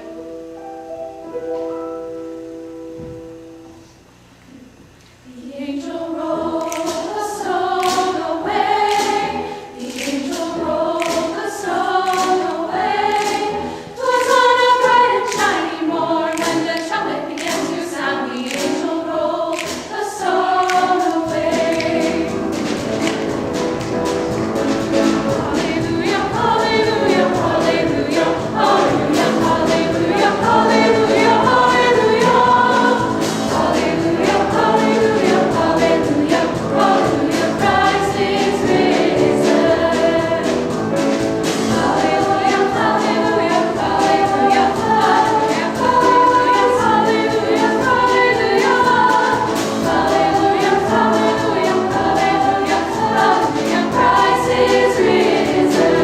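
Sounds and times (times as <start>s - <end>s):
choir singing gospel song: 5.3s - 56.0s.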